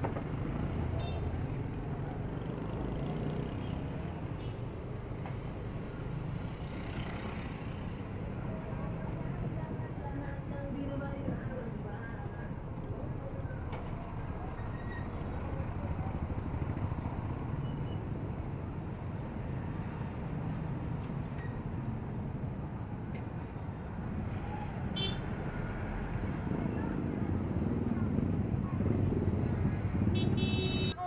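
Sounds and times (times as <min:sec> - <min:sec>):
motorbikes and cars passing: 0:00.0 - 0:31.0
wind and road noise: 0:00.0 - 0:31.0.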